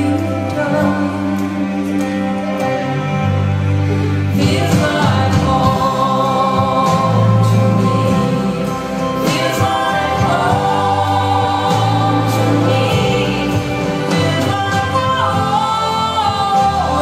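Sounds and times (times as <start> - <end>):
instrumental backing with bass notes: 0.0 - 17.0
person singing: 0.0 - 17.0.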